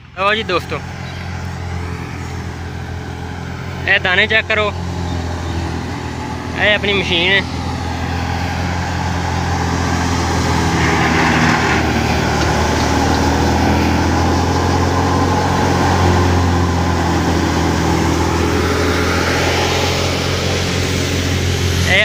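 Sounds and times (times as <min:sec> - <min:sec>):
thresher drum and blower whirring: 0:00.0 - 0:22.0
tractor diesel engine running: 0:00.0 - 0:22.0.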